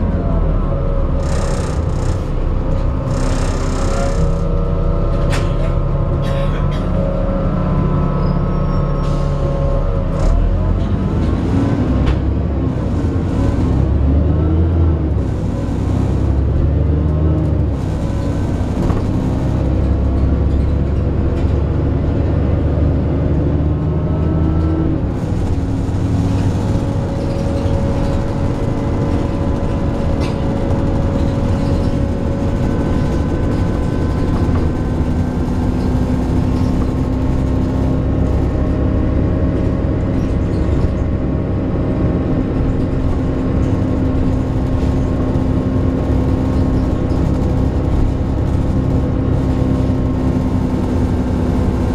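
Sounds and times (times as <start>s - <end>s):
bus engine and road noise: 0.0s - 51.9s
droning groaning tones: 0.0s - 51.9s.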